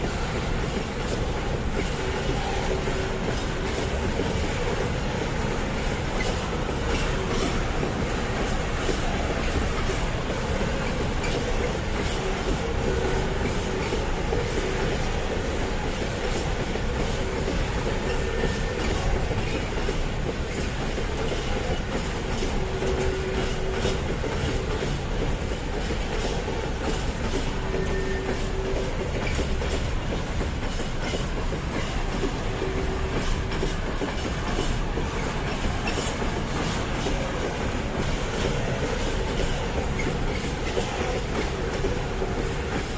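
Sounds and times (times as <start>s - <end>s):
train rumble: 0.0s - 42.9s
train wheels clicking over rail joints: 0.0s - 42.9s.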